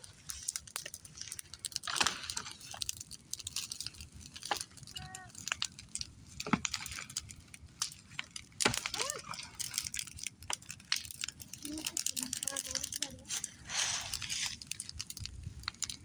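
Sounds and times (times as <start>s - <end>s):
sharp crackles and clicks: 0.0s - 16.0s.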